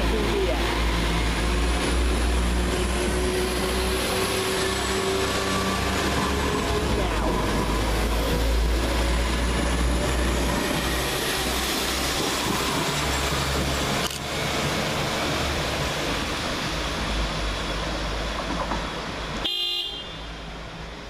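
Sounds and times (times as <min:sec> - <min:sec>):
diesel train pulling away: 0:00.0 - 0:19.4.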